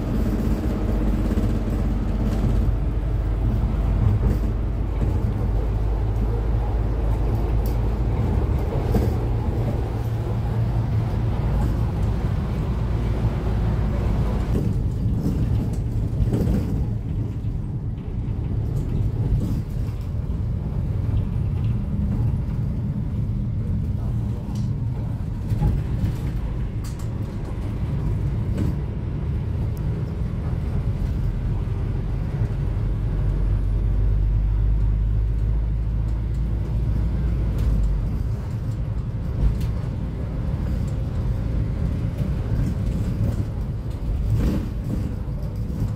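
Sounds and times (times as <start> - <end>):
diesel engine droning: 0.0 - 45.9.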